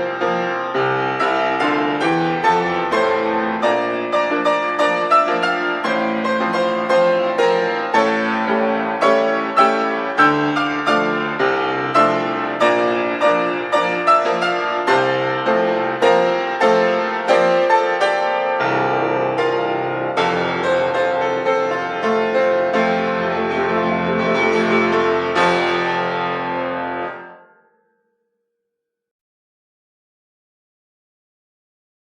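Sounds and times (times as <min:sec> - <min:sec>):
solo piano playing: 0:00.0 - 0:27.6.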